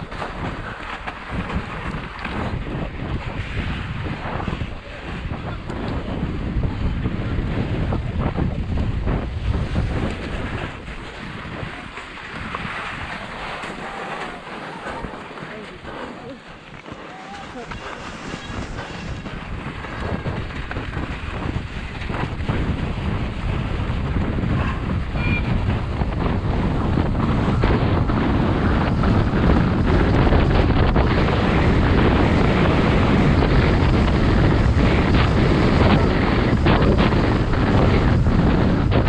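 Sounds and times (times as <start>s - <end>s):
bike rattling over snow: 0.0s - 4.5s, 5.8s - 39.0s
wind buffeting microphone: 0.0s - 39.0s.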